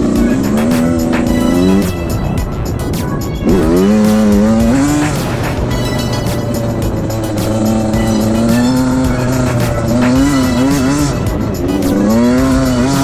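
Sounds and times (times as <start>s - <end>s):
dirt bike engines revving: 0.0s - 13.0s
low drone: 0.0s - 13.0s.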